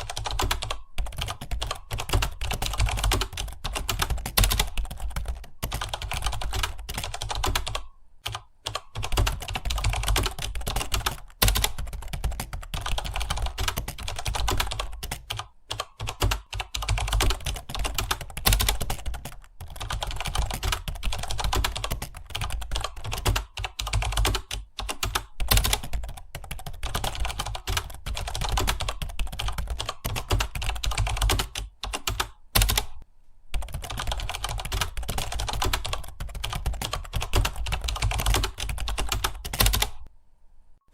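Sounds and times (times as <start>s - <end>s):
fast typing on keyboard: 0.0s - 33.0s, 33.6s - 40.1s.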